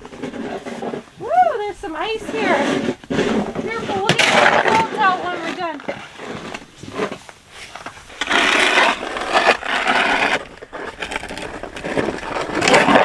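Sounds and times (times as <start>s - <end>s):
snow and ice crunching: 0.0s - 13.0s.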